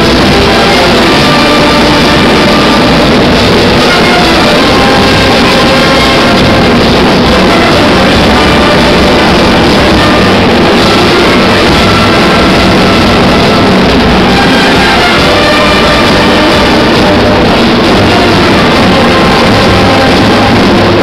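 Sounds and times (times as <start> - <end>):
brass street band playing: 0.0 - 21.0.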